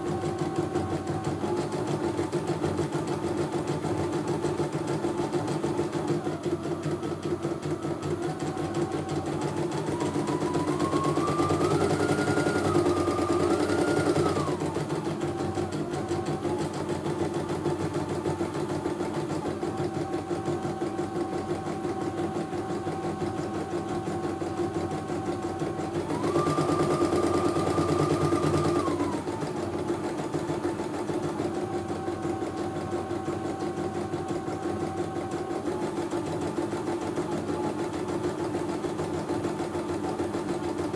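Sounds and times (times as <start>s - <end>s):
machine motor whine: 0.0s - 40.9s.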